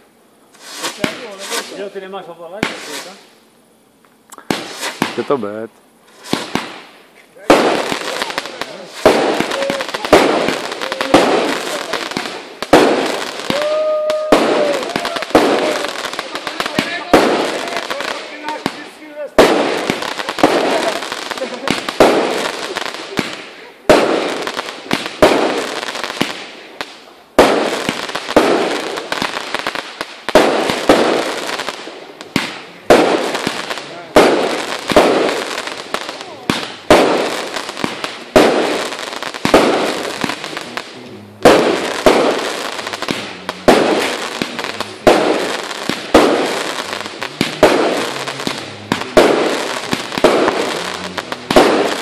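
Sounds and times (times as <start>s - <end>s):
fireworks bangs: 0.0s - 3.4s, 4.4s - 52.0s.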